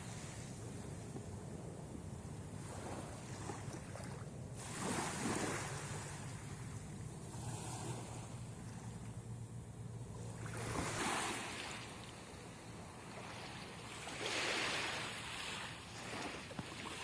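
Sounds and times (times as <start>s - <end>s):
waves breaking on beach: 0.0s - 1.4s, 2.0s - 9.1s, 10.1s - 17.0s.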